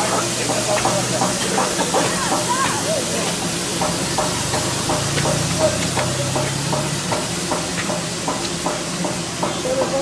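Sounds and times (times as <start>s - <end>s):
steam hissing: 0.0s - 10.0s.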